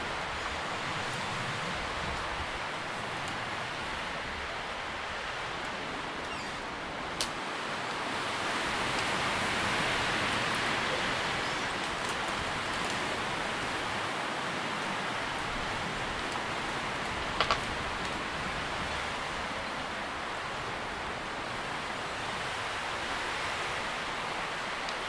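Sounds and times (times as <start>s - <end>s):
wind rustling tree leaves: 0.0s - 25.0s.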